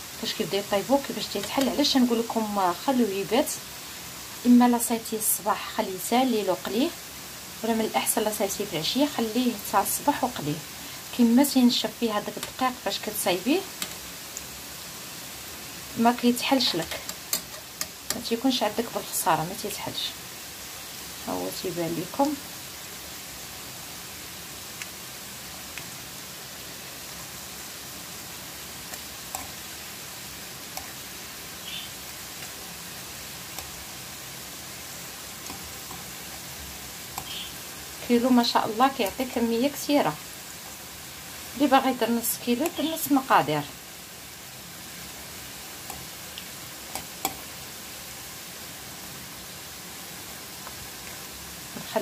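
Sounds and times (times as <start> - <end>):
pastries sizzling in hot oil: 0.0 - 52.0.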